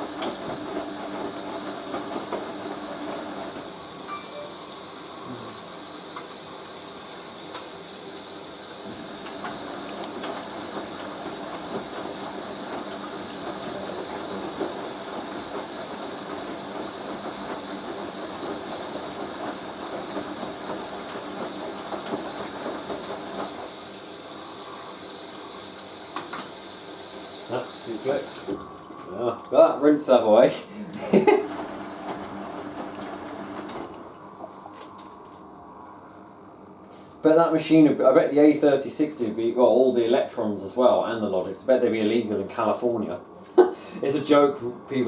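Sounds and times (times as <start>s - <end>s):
washing machine churning water: 0.0s - 45.0s.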